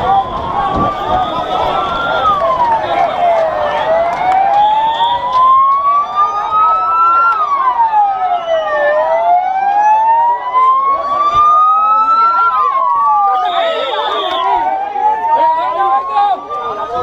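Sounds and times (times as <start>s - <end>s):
police sirens wailing: 0.0s - 17.0s.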